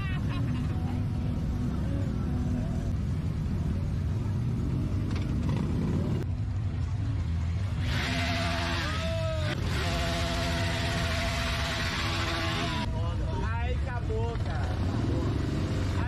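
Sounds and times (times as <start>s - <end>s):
higher engine sound: 0.0s - 12.9s
motorcycle engines rumbling: 0.0s - 16.0s.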